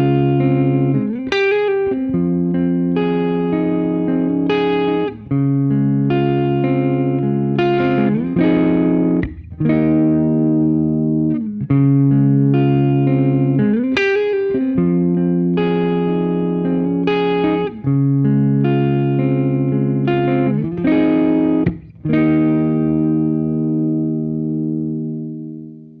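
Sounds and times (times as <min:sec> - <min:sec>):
distorted electric guitar chords: 0:00.0 - 0:26.0.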